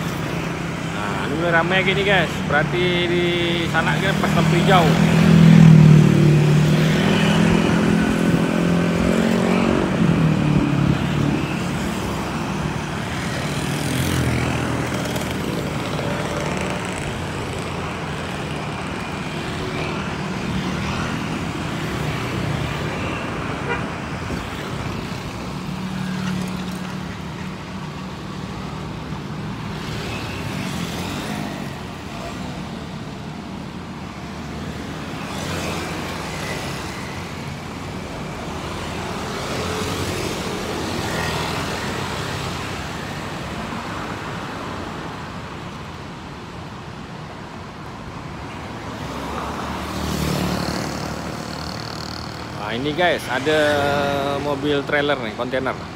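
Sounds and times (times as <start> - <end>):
scooters and cars passing: 0.0 - 55.9.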